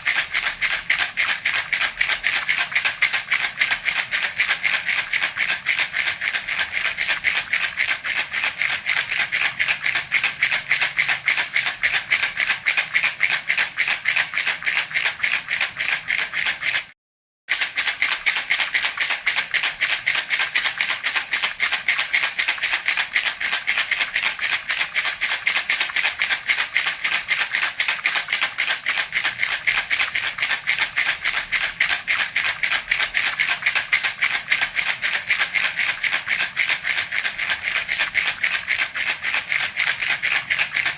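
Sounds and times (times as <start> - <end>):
baby rattle shaken: 0.0 - 16.9, 17.5 - 40.9.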